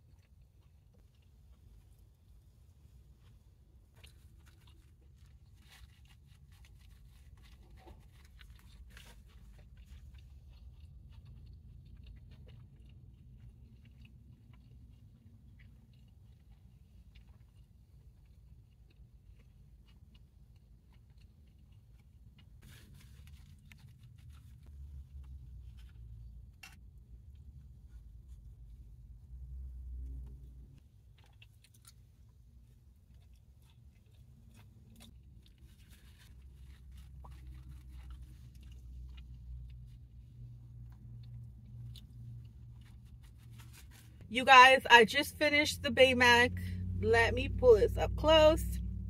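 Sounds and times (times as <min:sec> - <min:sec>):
chewing and crunching food: 0:00.0 - 0:44.3
low steady hum: 0:00.0 - 0:49.0.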